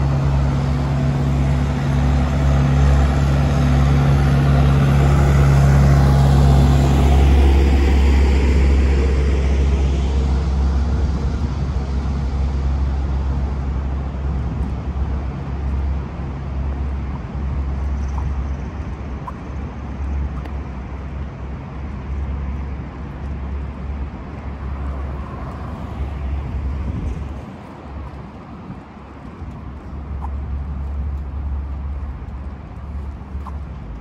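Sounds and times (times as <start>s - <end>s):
road traffic hum: 0.0s - 34.0s.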